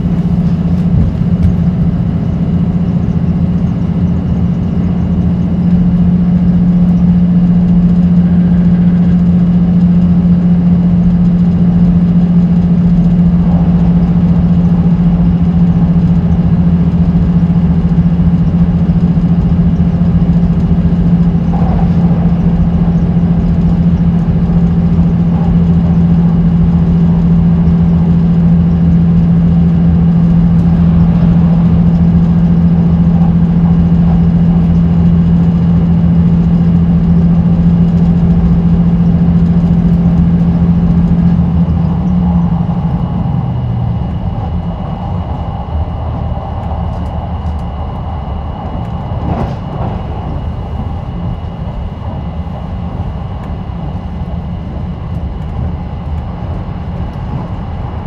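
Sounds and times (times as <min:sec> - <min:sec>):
train running: 0:00.0 - 0:58.0.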